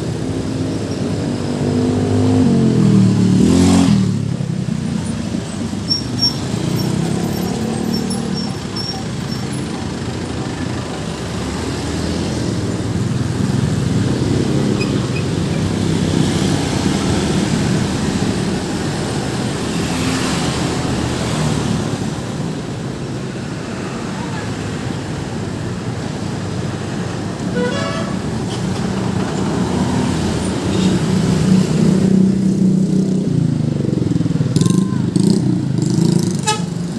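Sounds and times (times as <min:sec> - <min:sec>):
road traffic passing: 0:00.0 - 0:36.9.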